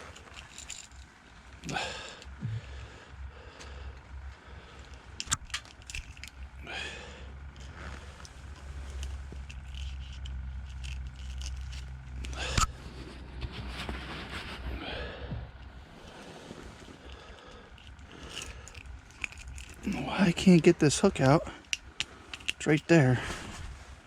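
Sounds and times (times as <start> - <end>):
small clicks and scrapes: 0.0 - 2.4, 4.8 - 6.6, 7.5 - 14.6, 15.6 - 23.7
steady low rumble: 0.0 - 24.0.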